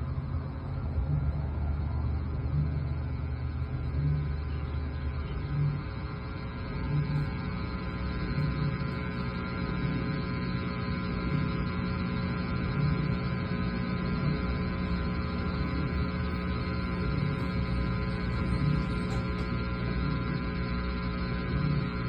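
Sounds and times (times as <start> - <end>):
faint low pulsing: 0.0 - 22.0
steady tonal hum: 0.0 - 22.0.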